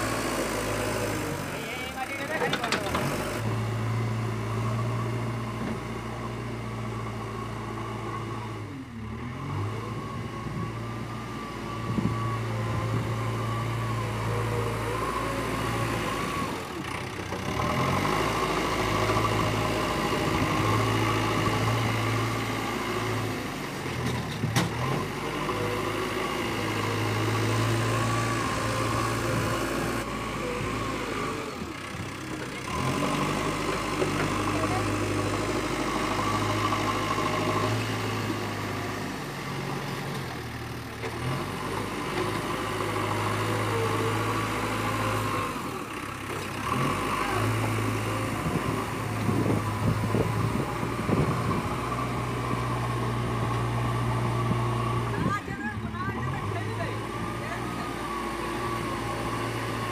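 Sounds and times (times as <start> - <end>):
diesel engine running: 0.0 - 59.9
loader bucket in loose earth: 0.0 - 59.9.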